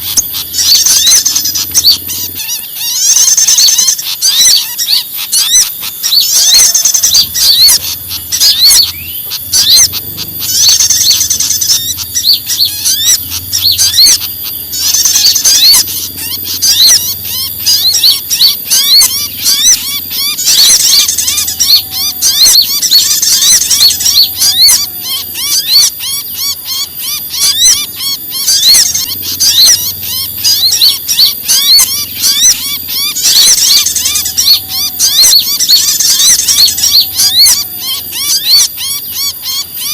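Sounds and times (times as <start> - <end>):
faint low hum: 0.0 - 39.9
songbirds chirping and chattering: 0.0 - 39.9.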